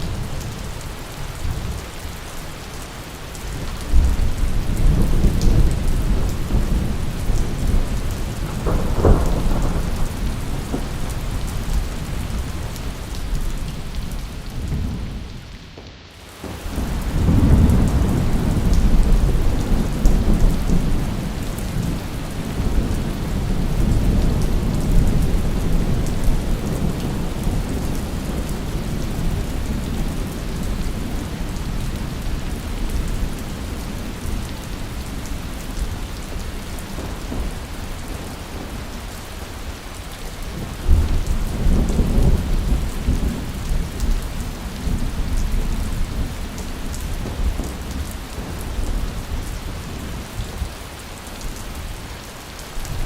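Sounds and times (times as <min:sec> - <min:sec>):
heavy rain hissing: 0:00.0 - 0:53.0
low rolling thunder: 0:03.4 - 0:15.5, 0:16.4 - 0:39.4, 0:40.4 - 0:50.8.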